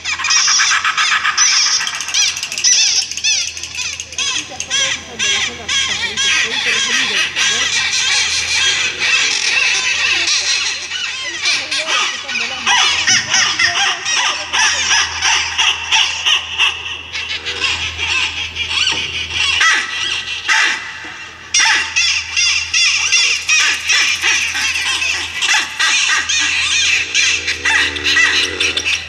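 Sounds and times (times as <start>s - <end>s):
jungle birds calling: 0.0s - 29.0s
steady low hum: 0.0s - 29.0s.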